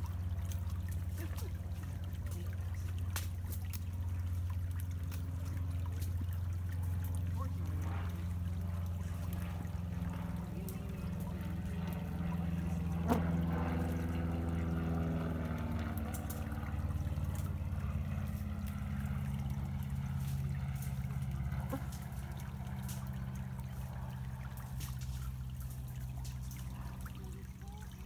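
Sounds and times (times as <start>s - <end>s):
steady low rumble: 0.0s - 28.0s
stream trickling over pebbles: 0.0s - 28.0s.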